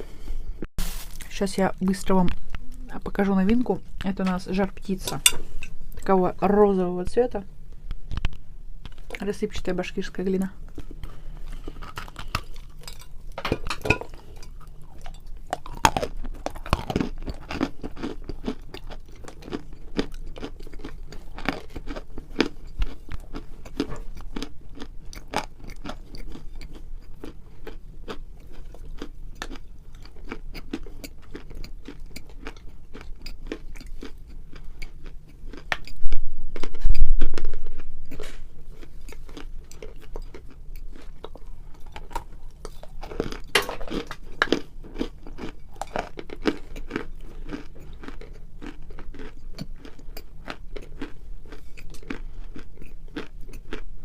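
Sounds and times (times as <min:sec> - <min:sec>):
crunching and chewing clay: 0:10.7 - 0:54.0.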